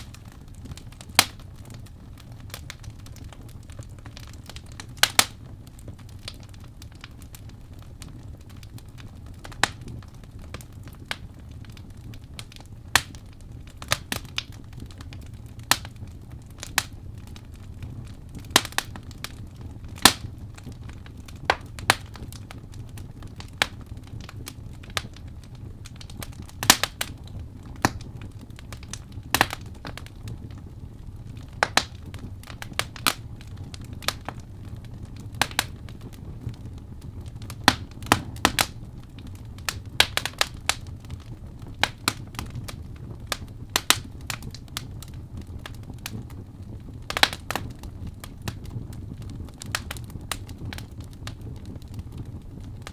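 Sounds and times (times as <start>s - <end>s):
low fire rumble: 0.0s - 52.9s
wood fire crackling and popping: 0.0s - 52.9s.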